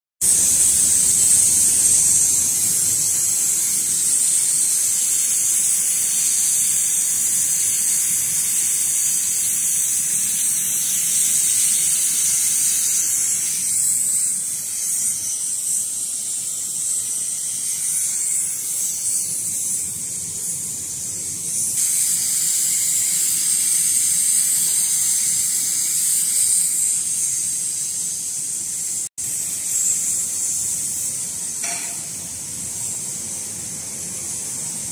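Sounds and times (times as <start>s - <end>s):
high-pitched hiss of hot air: 0.2s - 34.9s.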